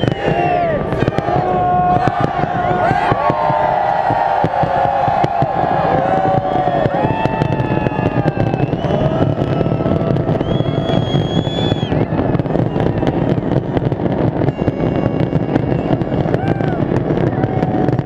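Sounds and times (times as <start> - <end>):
crowd cheering and shouting: 0.0 - 18.0
fireworks cracking and banging: 0.0 - 18.0
long high firework whistles: 0.0 - 18.0.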